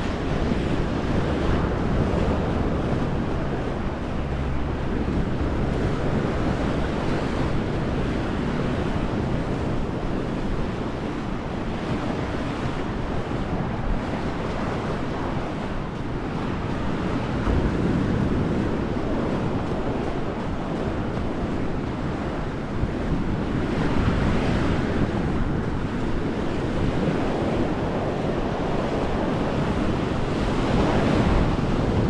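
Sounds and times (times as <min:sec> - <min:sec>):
surf washing on a beach: 0:00.0 - 0:32.0
wind buffeting microphone: 0:00.0 - 0:32.0.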